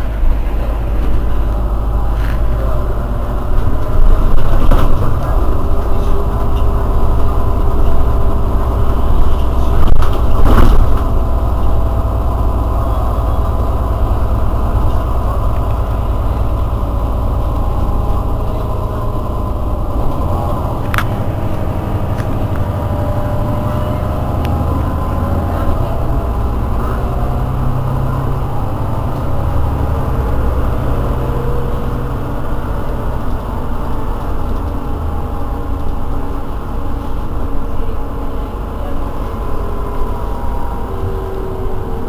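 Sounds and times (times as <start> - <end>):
bus engine idling: 0.0 - 42.0.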